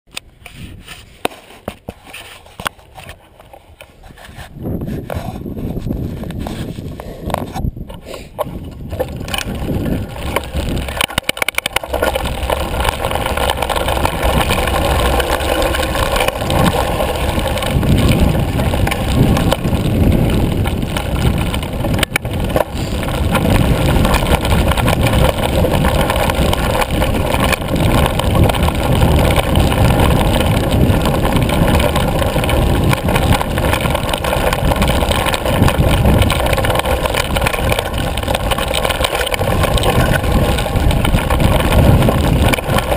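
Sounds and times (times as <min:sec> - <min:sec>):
bike rattling over bumps: 0:00.1 - 0:42.9
wind buffeting microphone: 0:04.0 - 0:42.9.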